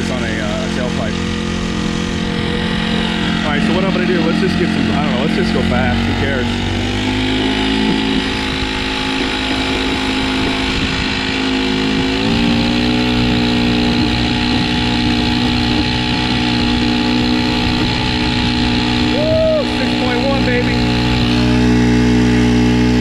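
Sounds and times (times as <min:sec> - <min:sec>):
small four-stroke engine running hard: 0:00.0 - 0:23.0.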